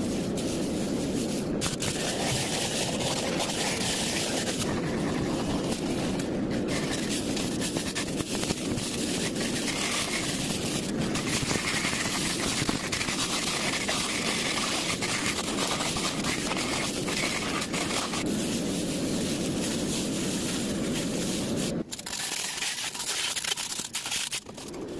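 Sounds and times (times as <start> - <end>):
laser cleaner hissing crackle: 0.0 - 23.4.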